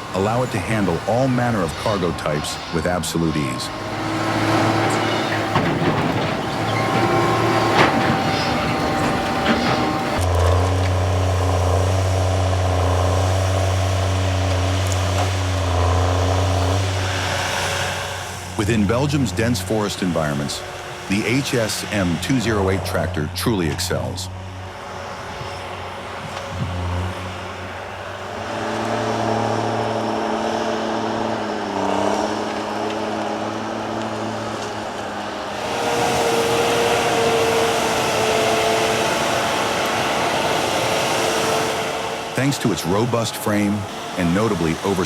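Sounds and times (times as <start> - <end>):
heavy machine engine humming: 0.0 - 45.0.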